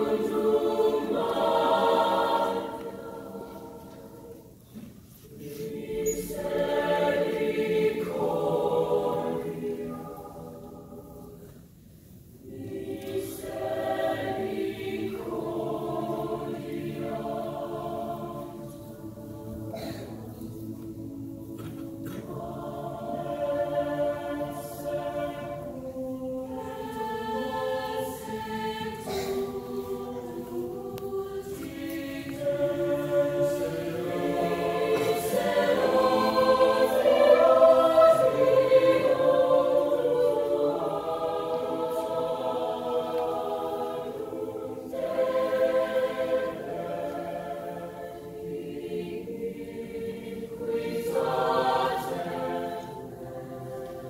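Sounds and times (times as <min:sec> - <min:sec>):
children's choir singing: 0:00.0 - 0:11.7, 0:12.3 - 0:54.0.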